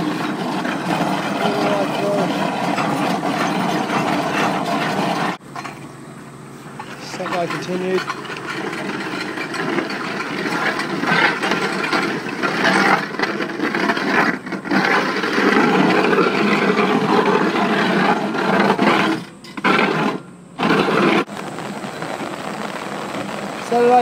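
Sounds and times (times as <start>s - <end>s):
auger grinding through rock: 0.0s - 5.8s, 6.7s - 21.4s.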